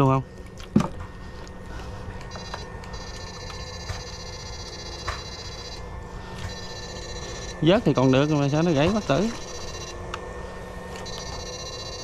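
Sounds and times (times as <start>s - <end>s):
high electronic whine: 0.0s - 12.0s.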